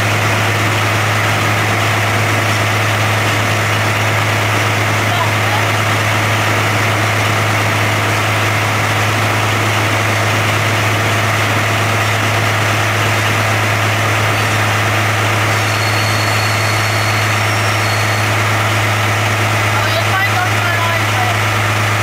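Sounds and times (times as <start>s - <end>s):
diesel railcar engine drone: 0.0s - 22.0s
train running noise: 0.0s - 22.0s.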